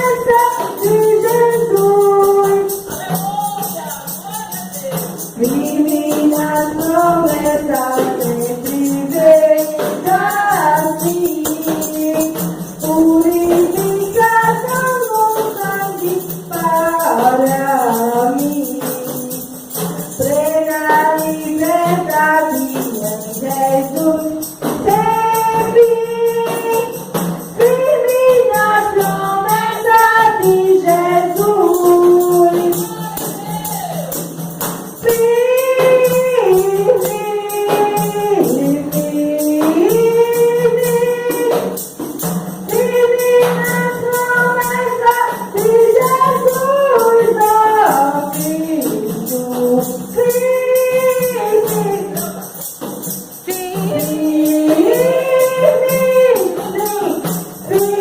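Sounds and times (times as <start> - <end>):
tambourine beat: 0.0 - 58.0
people singing a hymn: 4.9 - 34.4, 35.0 - 58.0.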